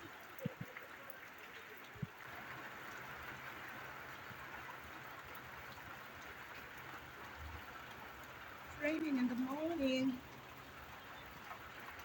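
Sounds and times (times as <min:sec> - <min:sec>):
scattered raindrops: 0:00.0 - 0:12.0
steady rain hiss: 0:00.0 - 0:12.0.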